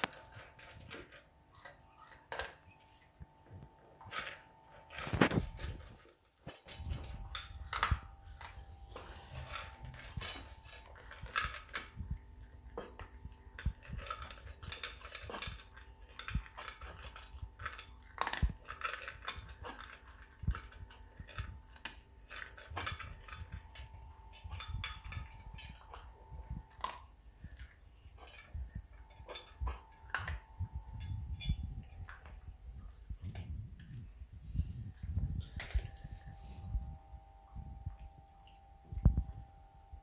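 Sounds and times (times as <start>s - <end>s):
dog eating from metal bowl: 0.0s - 40.0s.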